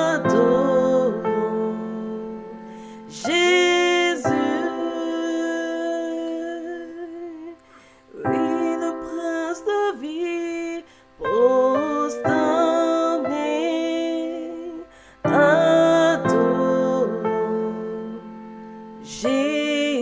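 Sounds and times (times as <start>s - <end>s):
woman singing: 0.0s - 20.0s.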